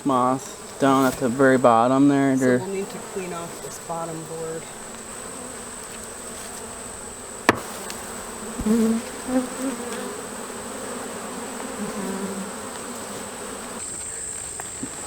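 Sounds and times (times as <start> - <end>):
bee flying past buzzing: 0.0 - 14.1
bees buzzing around hive: 0.0 - 15.0.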